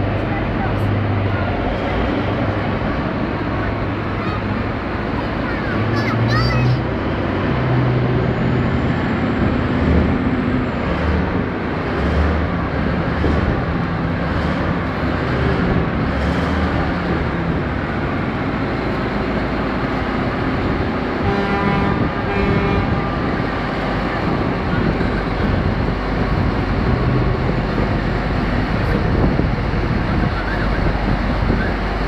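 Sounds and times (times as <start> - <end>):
truck diesel engine rumbling: 0.0 - 32.0.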